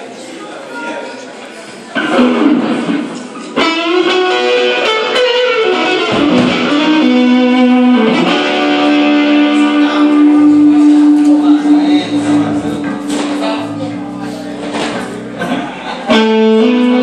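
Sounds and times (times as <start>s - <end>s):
electric guitar playing blues: 2.0s - 17.0s.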